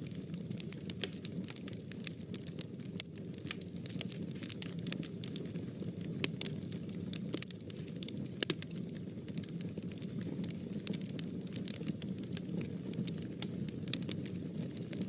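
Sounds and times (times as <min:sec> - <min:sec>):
fire crackling in fireplace: 0:00.0 - 0:15.0.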